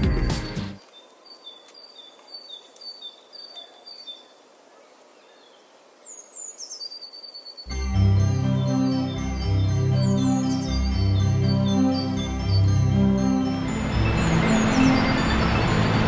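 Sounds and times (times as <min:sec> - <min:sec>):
small songbirds singing: 0:00.8 - 0:13.0, 0:13.7 - 0:16.0.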